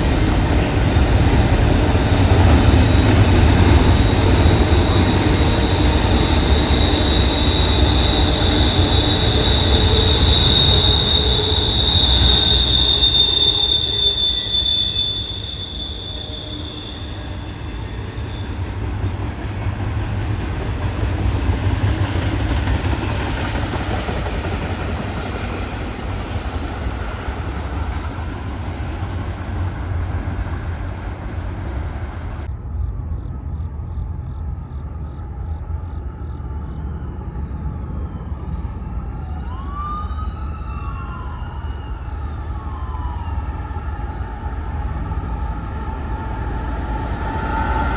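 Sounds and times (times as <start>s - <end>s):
train wheels squealing: 0.0s - 32.5s, 33.1s - 47.9s
train low rumble: 0.0s - 47.9s.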